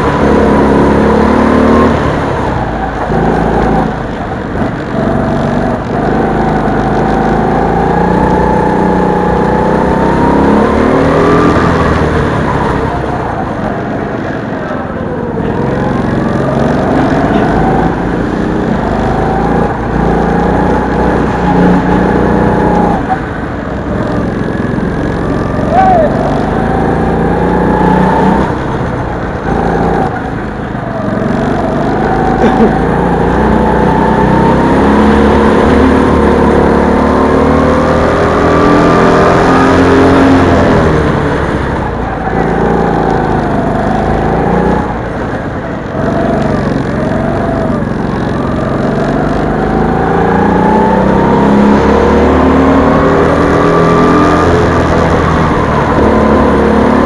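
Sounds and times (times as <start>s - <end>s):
go-kart engine accelerating: 0.0s - 57.0s
other go-kart engines: 0.0s - 57.0s.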